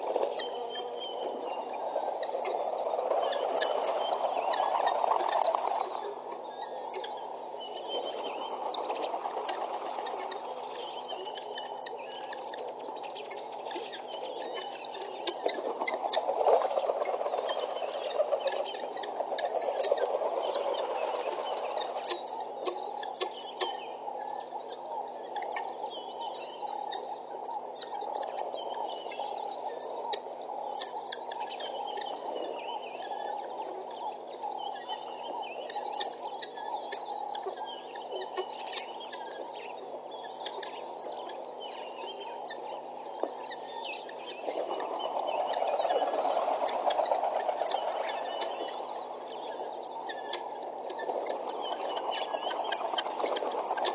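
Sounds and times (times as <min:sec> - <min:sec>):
guineafowl chattering chorus: 0:00.0 - 0:53.9
sharp bird calls: 0:00.0 - 0:53.9.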